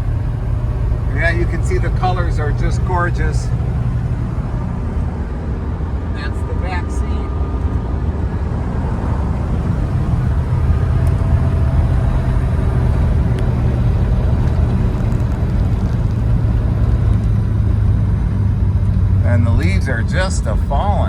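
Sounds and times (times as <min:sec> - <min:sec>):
car engine low drone: 0:00.0 - 0:21.0
road noise: 0:00.0 - 0:21.0.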